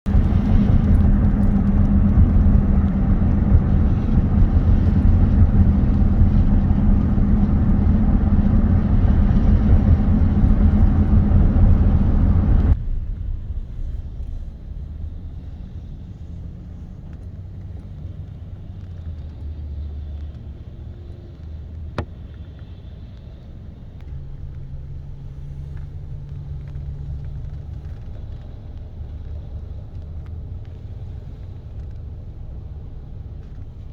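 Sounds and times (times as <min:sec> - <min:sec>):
car driving rumble: 0:00.0 - 0:33.9.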